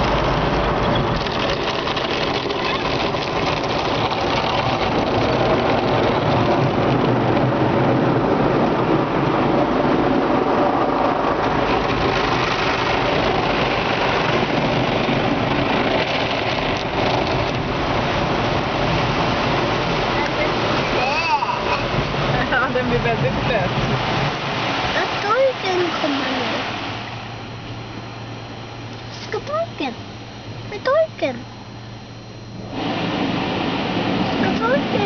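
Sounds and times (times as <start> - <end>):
car wash water spray: 0.0 - 29.6, 32.6 - 35.0.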